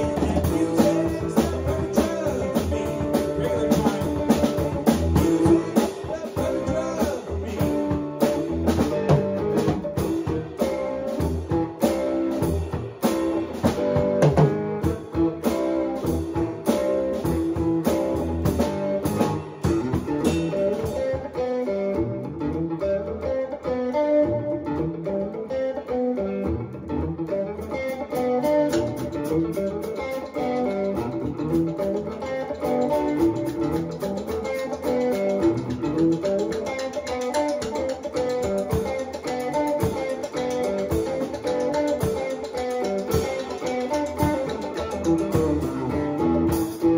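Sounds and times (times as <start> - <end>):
drum kit playing: 0.0 - 22.6, 27.4 - 46.9
guitar riff: 0.0 - 46.9.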